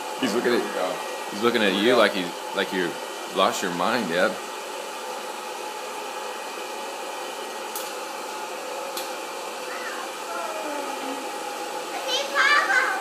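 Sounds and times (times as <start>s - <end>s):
popcorn popper blower fan: 0.0s - 13.0s.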